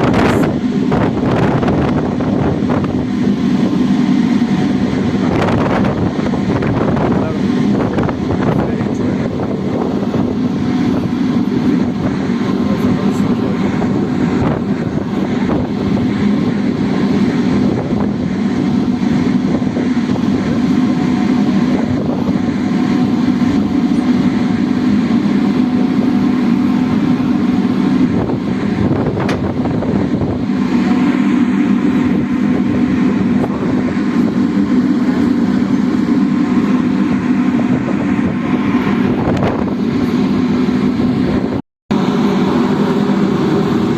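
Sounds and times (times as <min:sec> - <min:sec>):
constant wash of noise: 0:00.0 - 0:43.9
ferry engine humming: 0:00.0 - 0:43.9.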